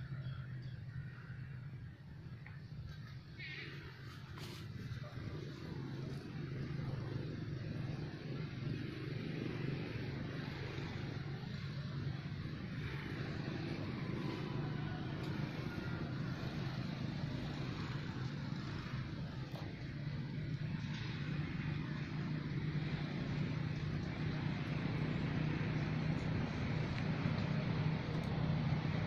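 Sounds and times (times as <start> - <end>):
motor engine running steadily: 0.0 - 29.0.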